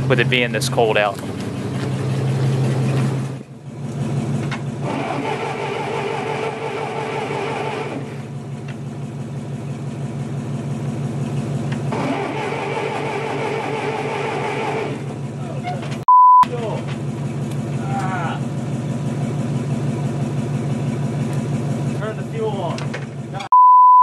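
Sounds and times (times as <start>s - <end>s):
tractor engine cranking: 0.0s - 9.9s, 10.7s - 23.5s
engine running: 0.0s - 23.5s.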